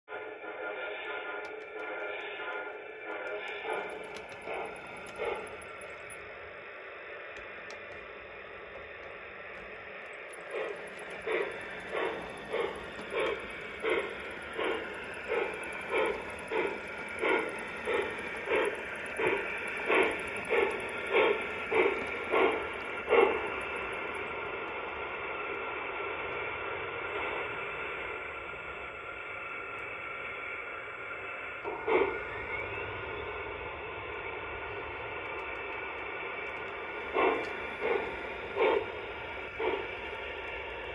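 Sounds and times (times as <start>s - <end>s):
model locomotive steam hissing: 0.1s - 40.9s
steam exhaust chuffs: 0.1s - 40.9s.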